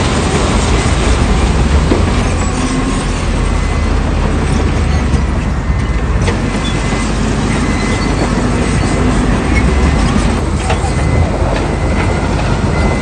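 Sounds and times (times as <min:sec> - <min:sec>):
diesel machinery low rumble: 0:00.0 - 0:13.0.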